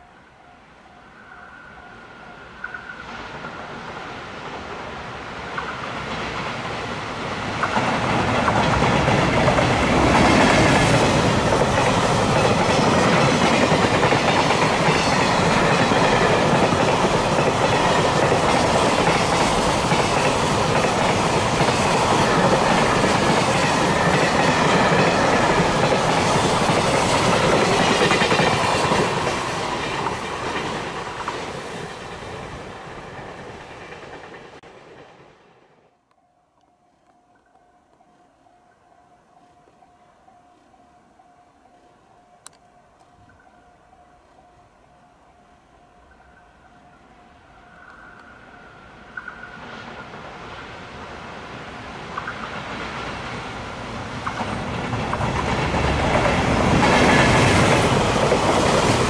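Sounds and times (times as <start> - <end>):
electric locomotive approaching: 0.0 - 59.0
train wheels on rails: 1.0 - 36.2, 36.9 - 59.0.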